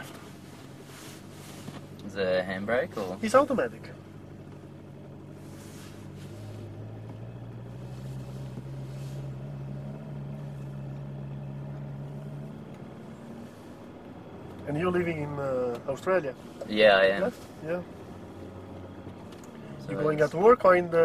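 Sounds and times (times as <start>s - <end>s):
car engine running at low revs: 0.0s - 21.0s.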